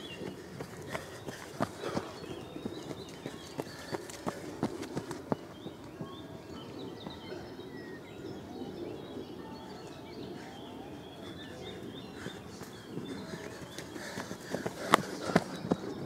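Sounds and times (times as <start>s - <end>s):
wild birds chirping and singing: 0.0s - 16.0s.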